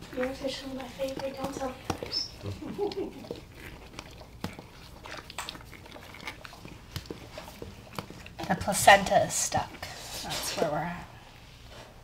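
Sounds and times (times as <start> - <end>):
dog licking and mouth sounds: 0.0 - 10.9.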